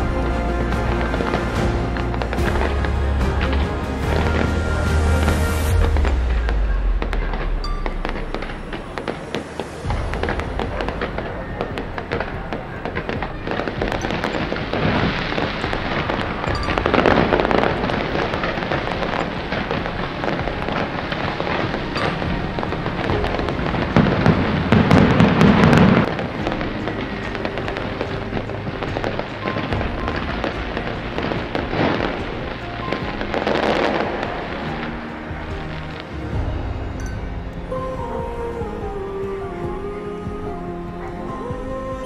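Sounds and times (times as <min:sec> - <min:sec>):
fireworks popping and crackling: 0:00.0 - 0:38.2
fireworks bangs: 0:00.0 - 0:39.7.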